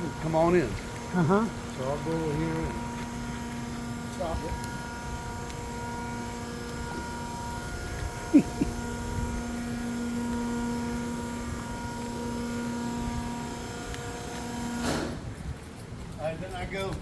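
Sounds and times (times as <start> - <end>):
gate machinery electric hum: 0.0 - 17.0.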